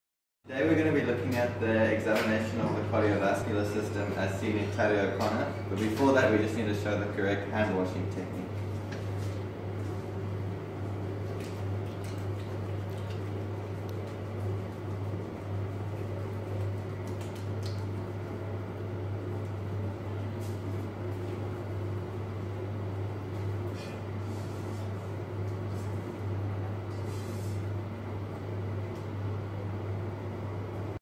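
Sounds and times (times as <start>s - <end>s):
steady low hum: 0.5s - 31.0s.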